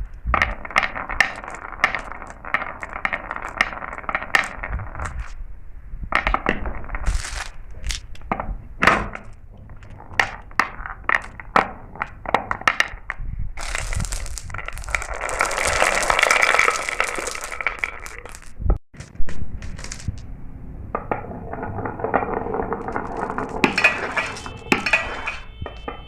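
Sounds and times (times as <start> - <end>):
marbles clacking and rolling: 0.0 - 5.4, 6.2 - 8.3, 9.2 - 18.6, 19.6 - 20.3, 20.9 - 26.0.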